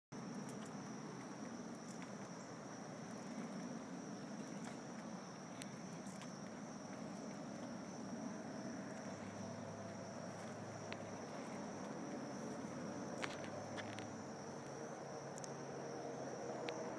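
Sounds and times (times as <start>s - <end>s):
low steady rumble: 0.2s - 16.9s.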